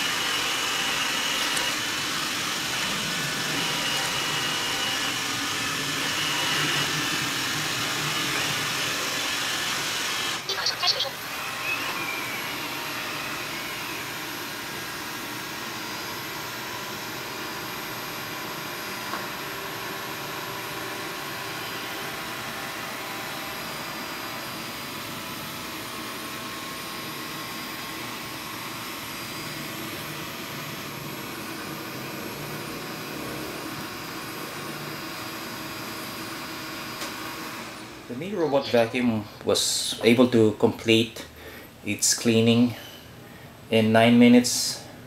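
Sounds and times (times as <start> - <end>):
fan motor whirring hum: 0.0 - 45.0.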